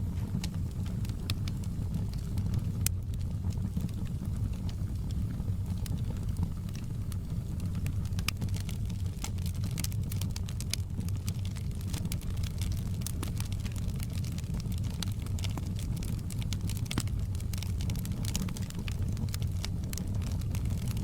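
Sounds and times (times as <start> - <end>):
burning logs rumbling: 0.0 - 21.0
fire crackling and popping: 0.0 - 21.0.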